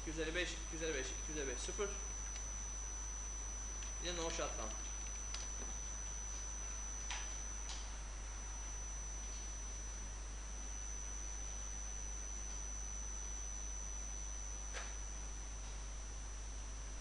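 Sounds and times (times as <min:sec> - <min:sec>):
high-pitched whine: 0:00.0 - 0:17.0
low electrical hum: 0:00.0 - 0:17.0.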